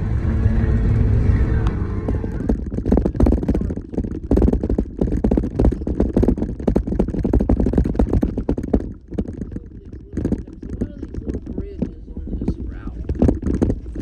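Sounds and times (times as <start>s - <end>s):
vehicle low rumble: 0.0s - 14.0s
knocks and rattles: 0.6s - 14.0s.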